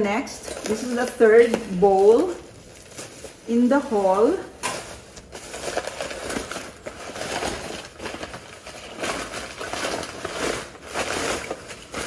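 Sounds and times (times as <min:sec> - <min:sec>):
bubble wrap and paper crinkling: 0:00.1 - 0:12.0.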